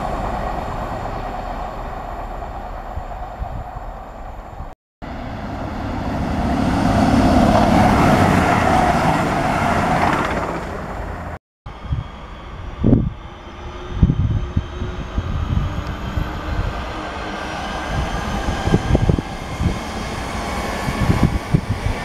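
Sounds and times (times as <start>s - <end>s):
electric train passing: 0.0s - 22.0s.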